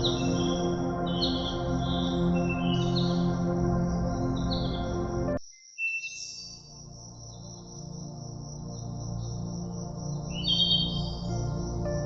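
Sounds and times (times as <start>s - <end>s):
soft ambient music: 0.0s - 5.4s, 6.2s - 12.0s.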